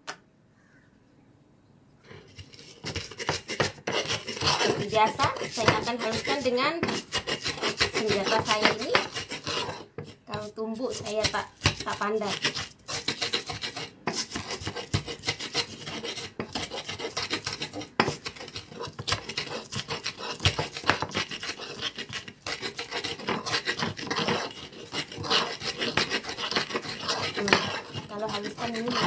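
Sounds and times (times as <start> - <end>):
metal utensil scraping earthenware: 2.1 - 29.0.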